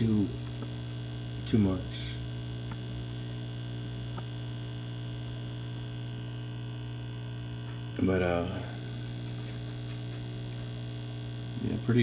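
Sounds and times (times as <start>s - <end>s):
aquarium air pump humming: 0.0s - 12.0s.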